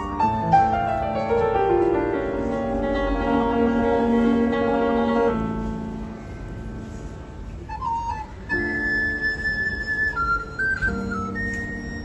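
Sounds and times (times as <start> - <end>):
grand piano playing: 0.0 - 12.0.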